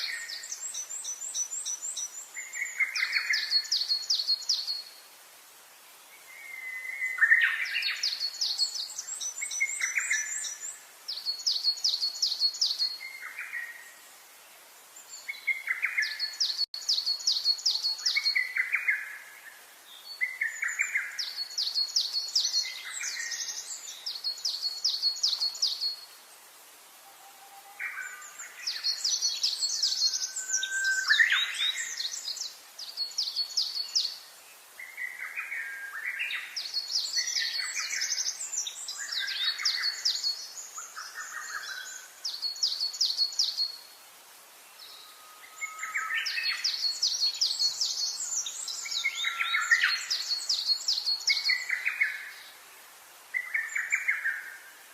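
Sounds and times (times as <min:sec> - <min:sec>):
songbirds trilling and chirping: 0:00.0 - 0:54.9.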